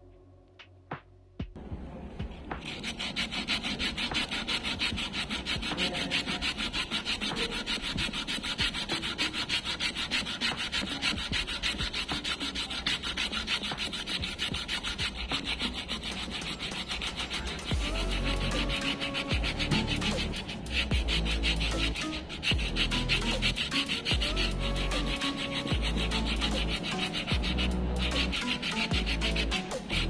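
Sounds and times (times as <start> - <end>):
sandpaper rubbing on wood: 2.5 - 30.0.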